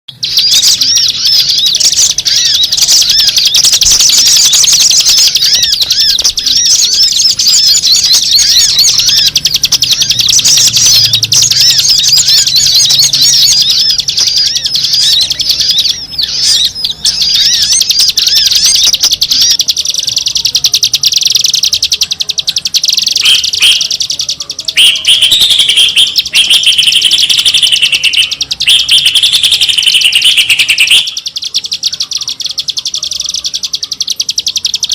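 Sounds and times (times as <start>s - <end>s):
lower repeated chirps: 0.1s - 34.9s
small birds chirping chorus: 0.1s - 34.9s.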